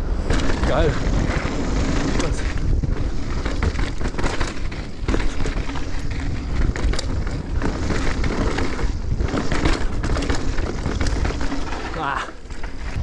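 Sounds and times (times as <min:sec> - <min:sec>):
bike clattering over bumps: 0:00.0 - 0:13.0
bike tyres on dirt: 0:00.0 - 0:13.0
wind buffeting microphone: 0:00.0 - 0:13.0.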